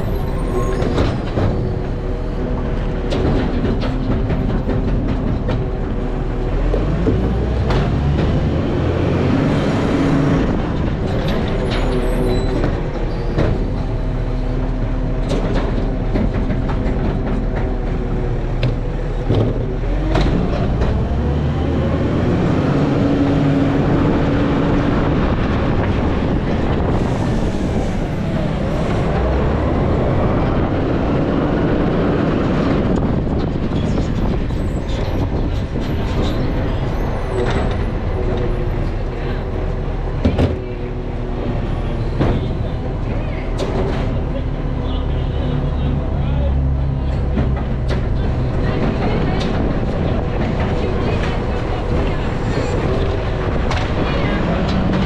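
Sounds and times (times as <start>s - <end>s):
garbage truck diesel engine revving: 0.0s - 55.0s.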